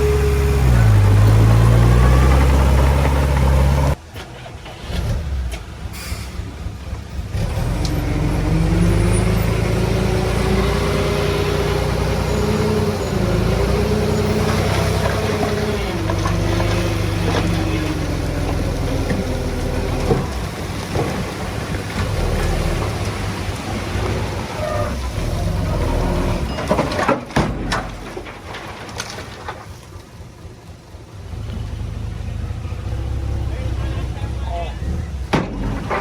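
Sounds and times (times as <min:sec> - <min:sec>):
heavy diesel machinery running: 0:00.0 - 0:36.0.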